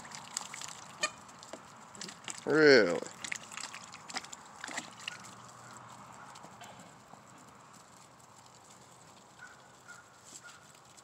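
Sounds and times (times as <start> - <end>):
chickens pecking at feed: 0.0 - 11.0.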